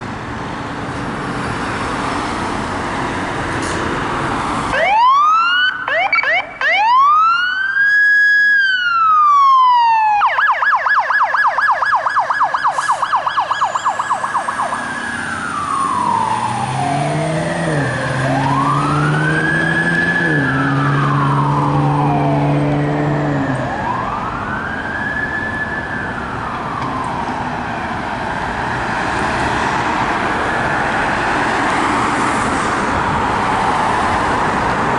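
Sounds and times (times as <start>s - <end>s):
traffic and engine noise: 0.0s - 34.9s
fire engine siren wailing and yelping: 4.4s - 34.9s.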